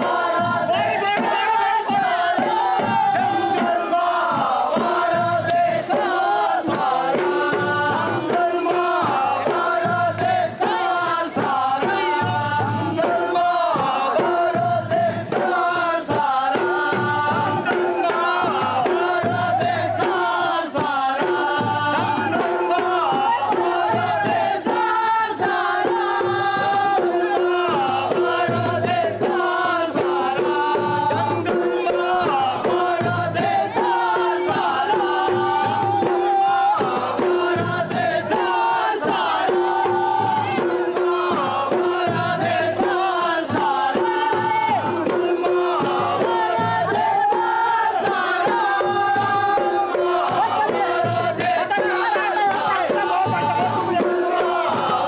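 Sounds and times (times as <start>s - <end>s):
drum beats: 0.0s - 55.0s
group of voices chanting: 0.0s - 55.0s.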